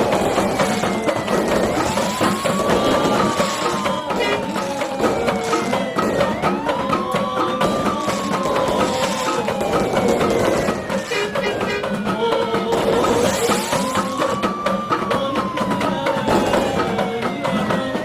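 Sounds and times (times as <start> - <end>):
rhythmic drumming: 0.0 - 18.0
siren wailing: 0.0 - 18.0
wood block strikes: 0.0 - 18.0.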